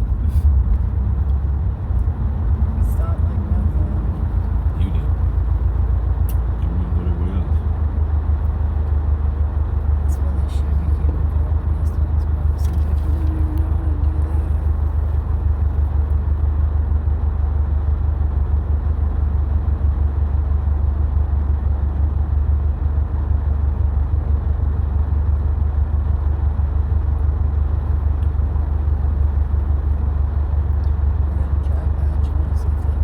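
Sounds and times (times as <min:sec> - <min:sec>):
car engine and road drone: 0:00.0 - 0:33.0.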